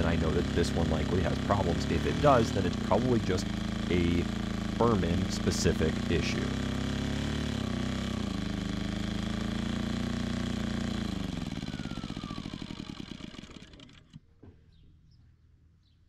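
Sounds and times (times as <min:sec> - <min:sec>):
generator engine running down: 0:00.0 - 0:14.2.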